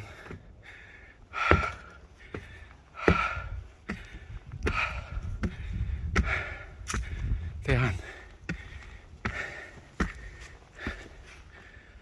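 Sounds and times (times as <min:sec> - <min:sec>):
footsteps climbing stairs: 0:00.0 - 0:11.9.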